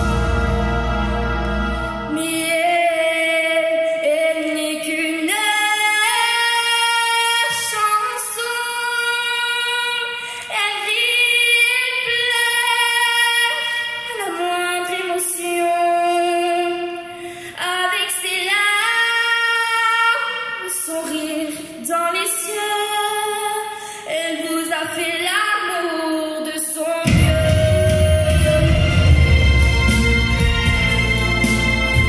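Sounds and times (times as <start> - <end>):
girl singing into a microphone: 2.1 - 28.9.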